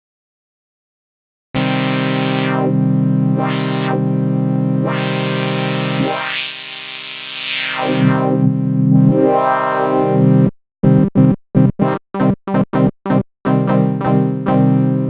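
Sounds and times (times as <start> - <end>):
synthesizer chord stabs: 1.6 - 15.0
synthesizer chord sweeping: 1.6 - 15.0.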